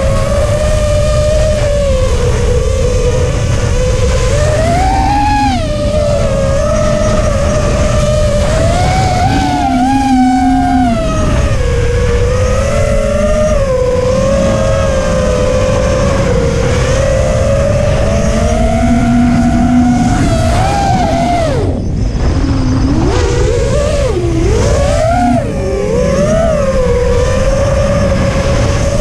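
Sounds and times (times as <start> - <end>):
low rumble: 0.0 - 29.0
quadcopter motors whining: 0.0 - 29.0.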